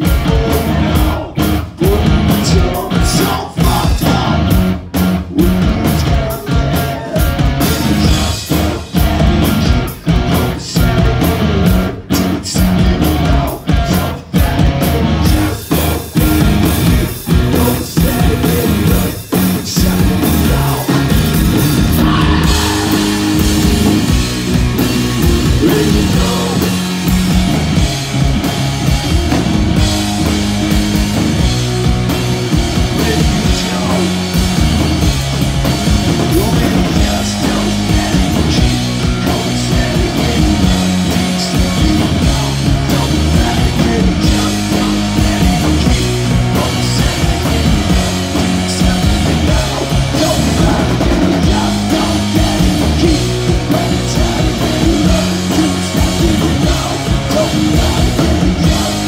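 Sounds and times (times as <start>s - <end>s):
distorted electric guitar riff: 0.0s - 59.0s
drum kit: 0.0s - 59.0s.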